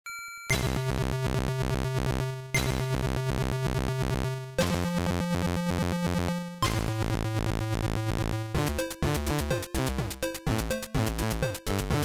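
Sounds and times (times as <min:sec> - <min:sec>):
chiptune music with beeping tones: 0:00.4 - 0:12.0.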